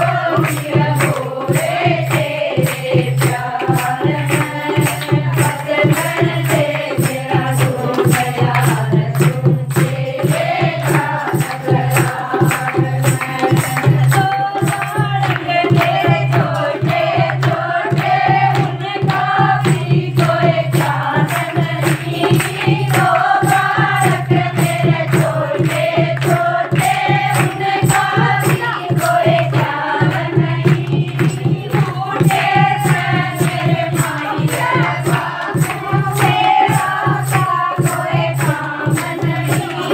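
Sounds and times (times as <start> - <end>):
hand clapping beat: 0.0 - 39.9
women singing together: 0.0 - 39.9.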